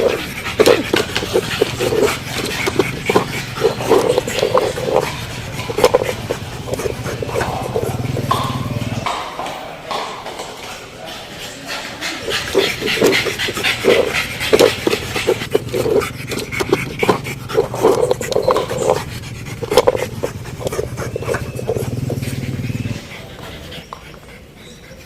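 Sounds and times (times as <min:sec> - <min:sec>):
dog panting and snorting: 0:00.0 - 0:09.1, 0:10.3 - 0:25.0.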